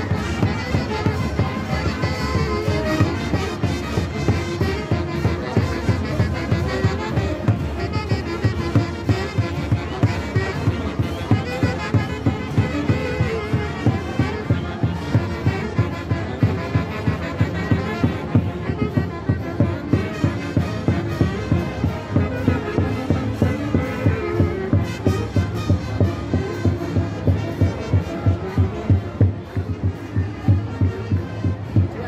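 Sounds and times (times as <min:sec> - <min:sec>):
wind instruments playing melody: 0:00.0 - 0:32.0
steady drumbeat: 0:00.1 - 0:31.9.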